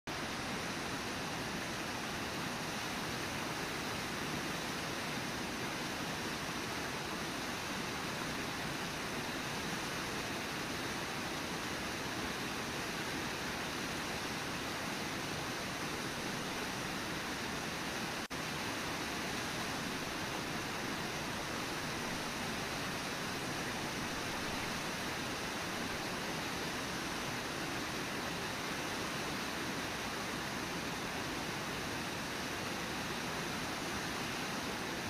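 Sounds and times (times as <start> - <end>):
rushing waterfall: 0.1 - 35.0.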